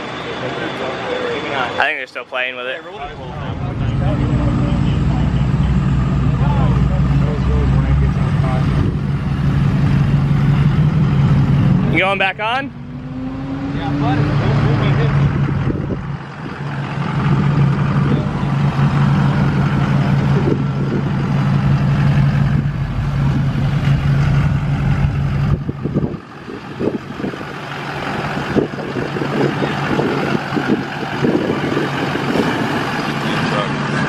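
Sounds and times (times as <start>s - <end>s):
diesel truck engine running hard: 0.0s - 34.0s.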